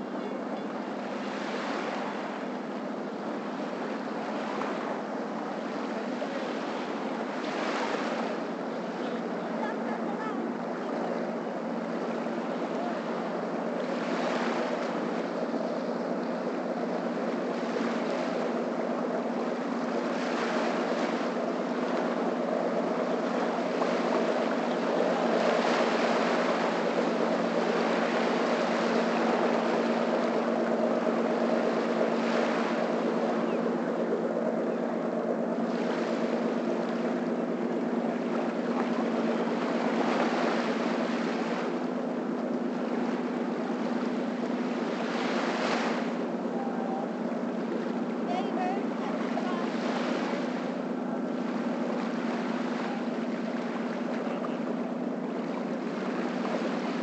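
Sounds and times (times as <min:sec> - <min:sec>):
small waves washing on sand: 0:00.0 - 0:34.6, 0:35.2 - 0:57.0
motorboat engine humming: 0:00.0 - 0:57.0.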